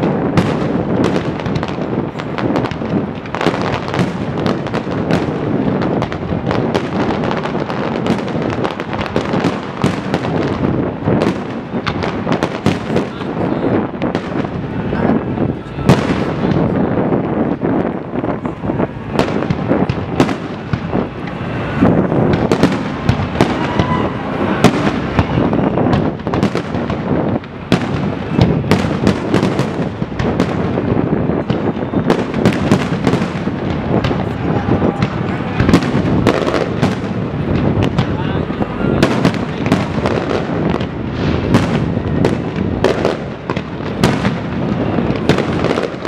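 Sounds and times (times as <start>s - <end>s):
continuous rumble: 0.0s - 46.0s
fireworks bangs and crackles: 0.0s - 46.0s.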